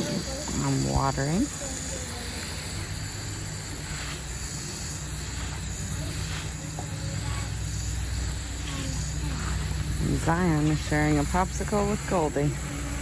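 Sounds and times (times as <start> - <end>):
low hum: 0.0 - 13.0
water spraying from garden hose: 0.0 - 13.0.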